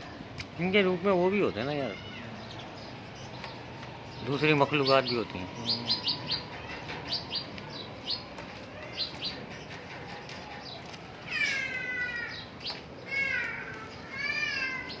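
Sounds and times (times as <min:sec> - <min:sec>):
sparrows chirping: 0:00.0 - 0:15.0
drawn-out ringing bird calls: 0:01.4 - 0:15.0.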